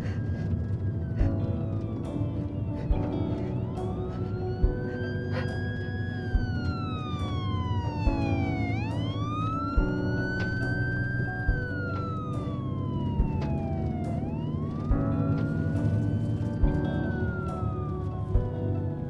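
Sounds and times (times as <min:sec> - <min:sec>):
low thudding pulse: 0:00.0 - 0:19.0
music with held notes: 0:00.0 - 0:19.0
siren wailing: 0:00.0 - 0:19.0.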